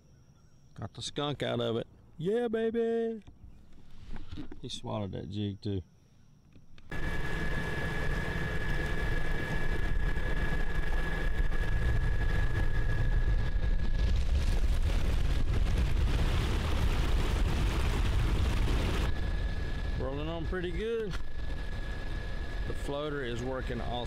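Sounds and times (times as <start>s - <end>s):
steady high whine: 3.2s - 24.0s.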